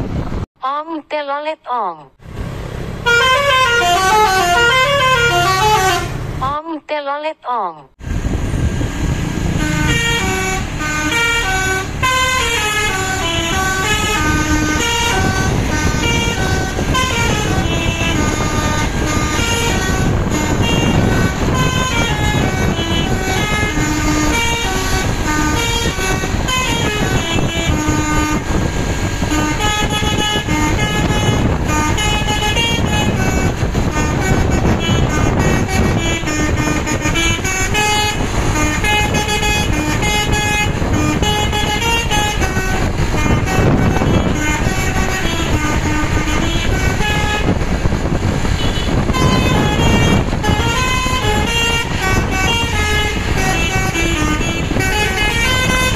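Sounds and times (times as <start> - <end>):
bus engine noise: 0.0 - 55.9
musical air horns playing melodies: 3.0 - 6.2, 9.5 - 55.9.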